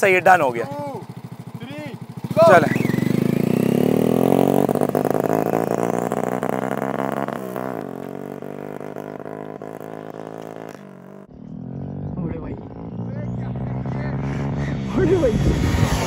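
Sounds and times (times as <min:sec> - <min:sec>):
motorcycle accelerating: 0:00.0 - 0:16.0.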